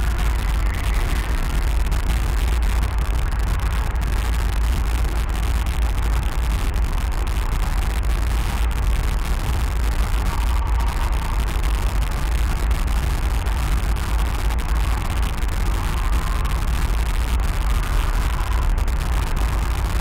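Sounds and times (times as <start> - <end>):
low rumble: 0.0 - 20.0
steady hiss: 0.0 - 20.0.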